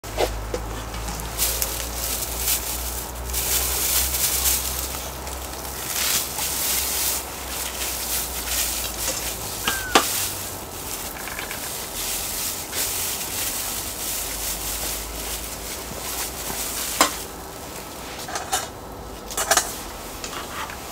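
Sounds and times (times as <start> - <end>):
pork sizzling on hot metal: 0.1 - 20.9.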